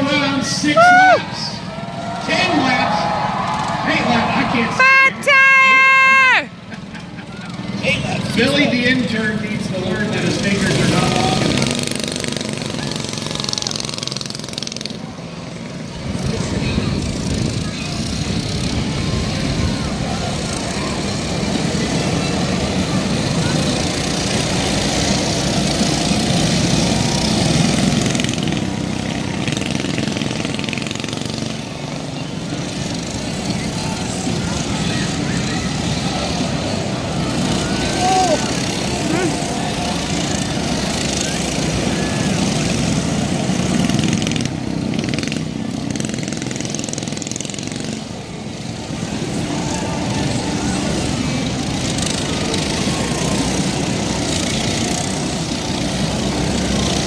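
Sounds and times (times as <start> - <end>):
mini bike engines racing: 0.0 - 57.0.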